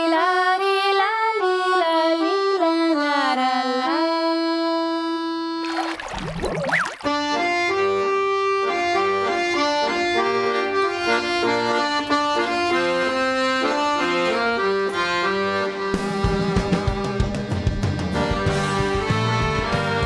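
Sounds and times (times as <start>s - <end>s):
piano accordion melody: 0.0s - 5.7s, 7.1s - 20.0s.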